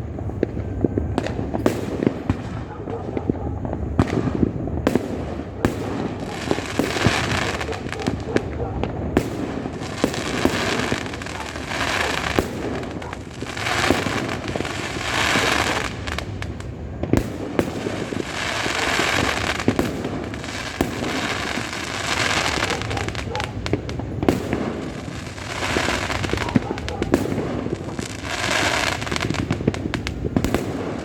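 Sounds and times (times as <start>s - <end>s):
fireworks and firecrackers bangs: 0.0s - 31.0s
sharp cracks: 0.4s - 31.0s.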